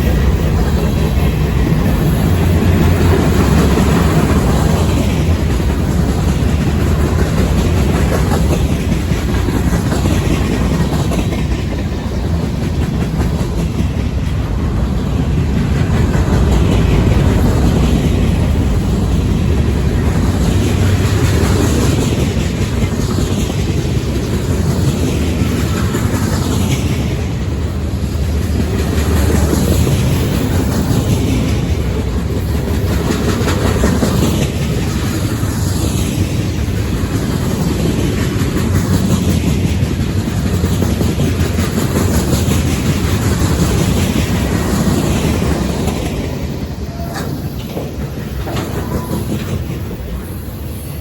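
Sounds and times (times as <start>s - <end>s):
freight train cars rolling past: 0.0s - 51.0s
wheels clickety-clack over rail joints: 0.0s - 51.0s.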